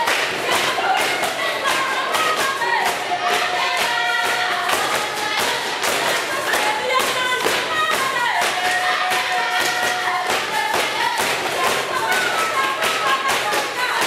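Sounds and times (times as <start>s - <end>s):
children singing in chorus: 0.0s - 14.0s.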